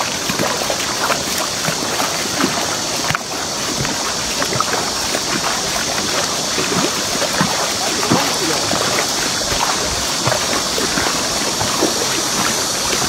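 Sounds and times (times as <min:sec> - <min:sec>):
river water rushing over weir: 0:00.0 - 0:13.0.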